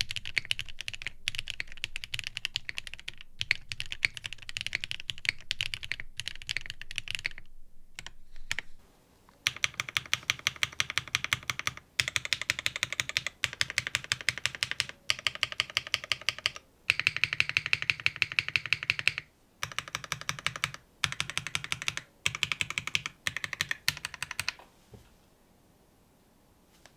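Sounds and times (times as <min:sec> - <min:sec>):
mechanical keyboard typing: 0:00.0 - 0:08.7, 0:09.4 - 0:24.6.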